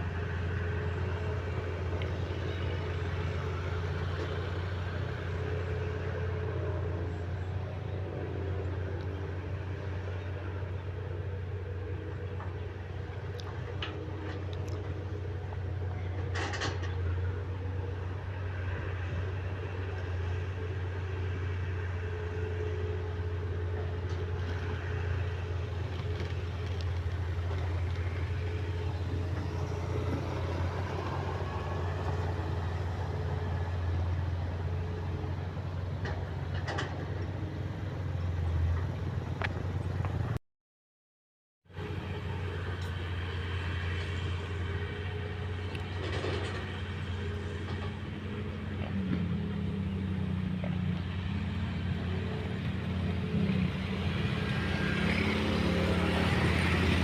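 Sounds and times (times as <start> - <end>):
heavy diesel machinery engine drone: 0.0 - 40.4, 41.7 - 57.0.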